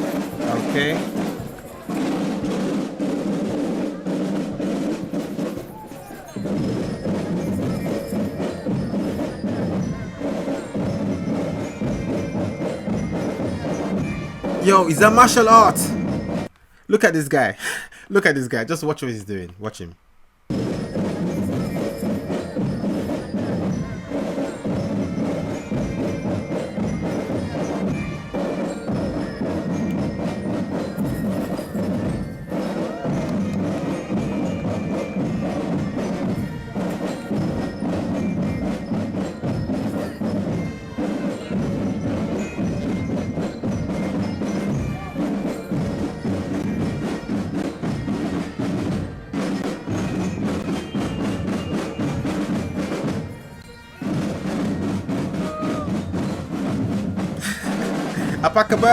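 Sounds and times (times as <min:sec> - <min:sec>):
military marching band: 0:00.0 - 0:19.4, 0:20.5 - 0:58.9.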